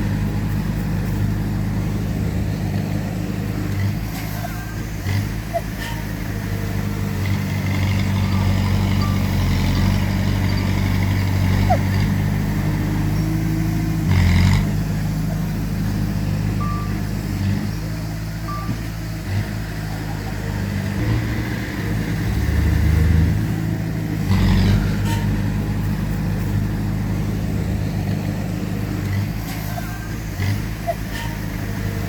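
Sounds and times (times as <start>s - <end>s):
diesel engines of heavy machinery: 0.0s - 32.0s.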